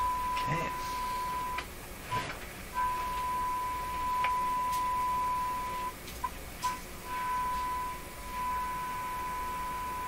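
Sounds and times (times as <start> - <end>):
steady radio test tone: 0.0 - 6.0, 6.7 - 10.0.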